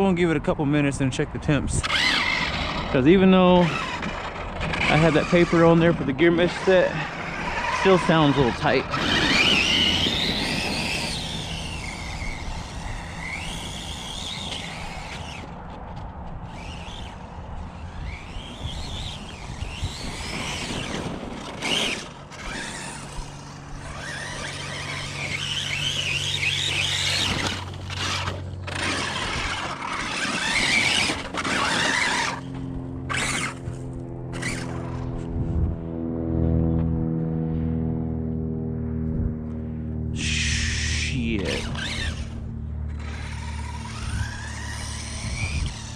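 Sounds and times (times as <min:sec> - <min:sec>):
electric motor whining: 0:01.3 - 0:45.9.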